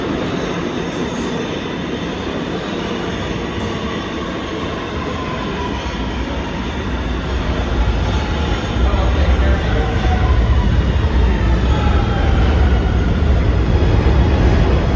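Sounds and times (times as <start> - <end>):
subway train wheels rumbling on rail: 0.0 - 14.9.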